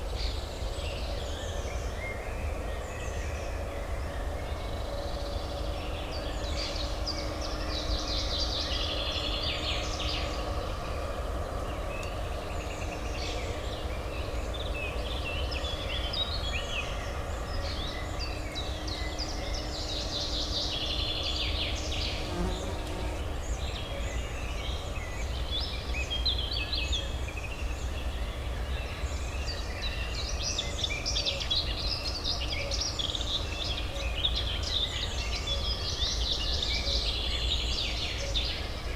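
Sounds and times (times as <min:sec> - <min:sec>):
low urban hum: 0:00.0 - 0:38.9.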